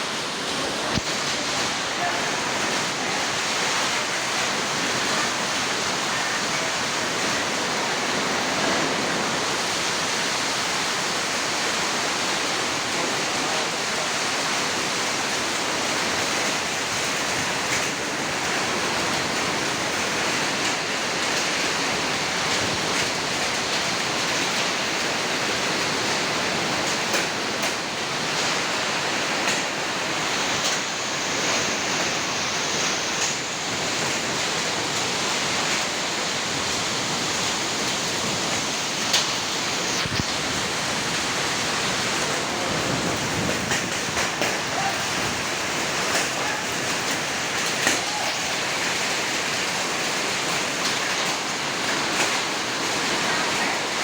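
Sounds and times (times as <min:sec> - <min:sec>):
heavy rain downpour: 0:00.0 - 0:54.0
strong wind: 0:00.0 - 0:54.0.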